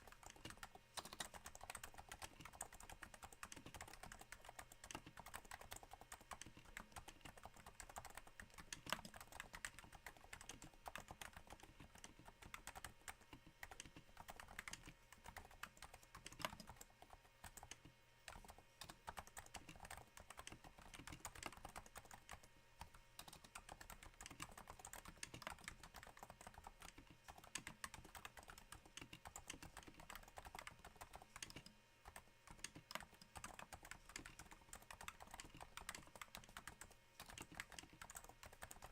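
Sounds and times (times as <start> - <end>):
soft keyboard typing: 0.0 - 38.9.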